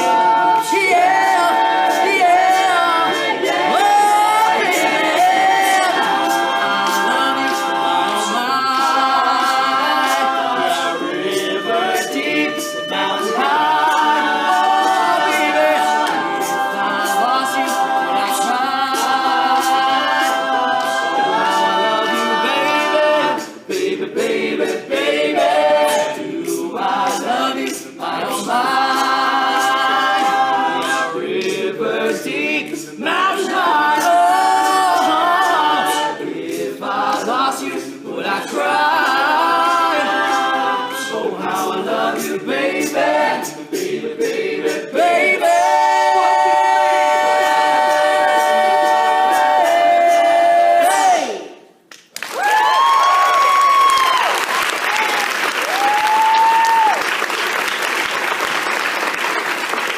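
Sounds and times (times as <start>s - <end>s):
vocal percussion clicking: 0.0s - 50.6s
male group singing in harmony: 0.0s - 51.5s.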